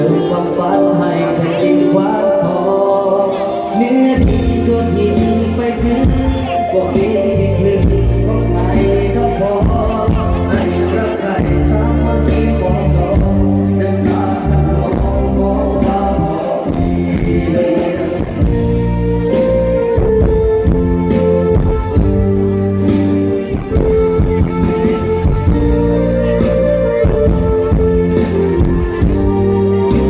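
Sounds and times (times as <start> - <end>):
band playing a song: 0.0 - 30.0
person singing: 0.0 - 30.0.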